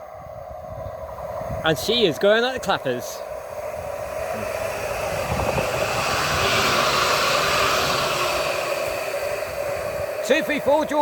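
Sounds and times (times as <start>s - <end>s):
tram wheels rushing on rail: 1.0s - 11.0s.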